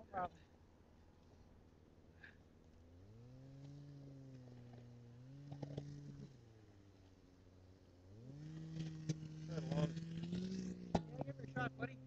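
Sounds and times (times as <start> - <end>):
engine revving: 2.2 - 12.0.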